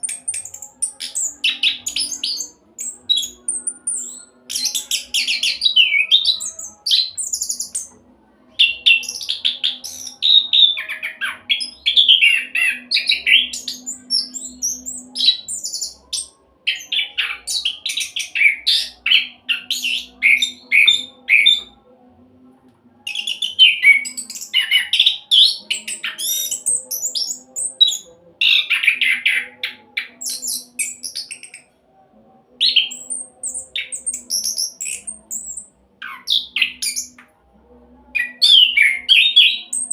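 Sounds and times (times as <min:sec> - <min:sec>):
bird singing rolling song: 0:00.0 - 0:08.0, 0:08.6 - 0:21.8, 0:23.1 - 0:31.7, 0:32.6 - 0:37.2
faint low hum: 0:00.0 - 0:38.8.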